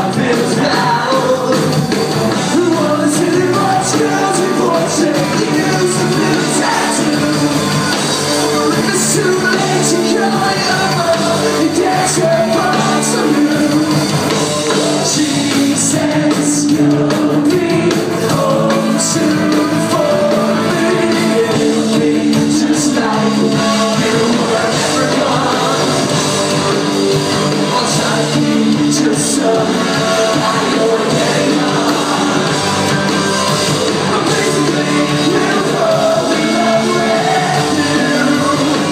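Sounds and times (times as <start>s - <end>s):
person singing: 0.0s - 26.3s, 27.6s - 33.0s, 33.8s - 38.9s
bass guitar: 0.0s - 38.9s
distorted electric guitars: 0.0s - 38.9s
drums with cymbal crashes: 0.0s - 38.9s.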